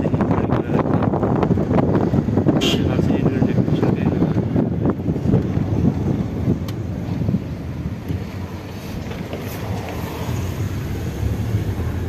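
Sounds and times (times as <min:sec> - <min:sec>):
car road and engine rumble: 0:00.0 - 0:12.0
wind buffeting microphone: 0:00.0 - 0:12.0.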